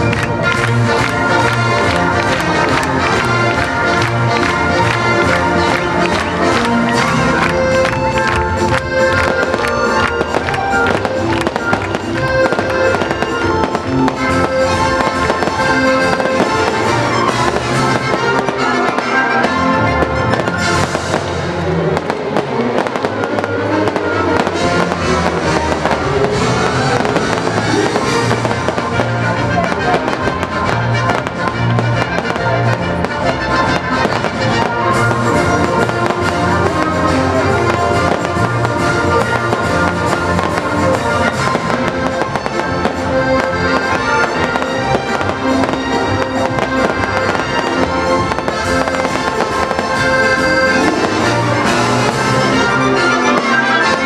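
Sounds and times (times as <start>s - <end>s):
fireworks bursting and crackling: 0.0s - 54.0s
loud music: 0.0s - 54.0s.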